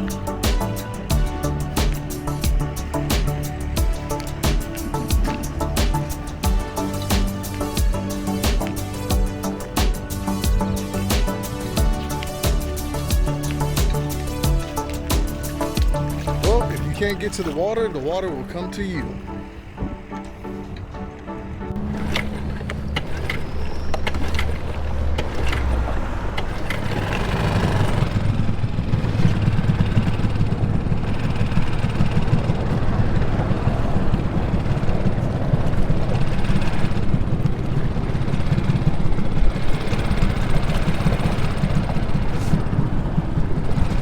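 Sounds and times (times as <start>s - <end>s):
engine rumbling: 0.0s - 44.0s.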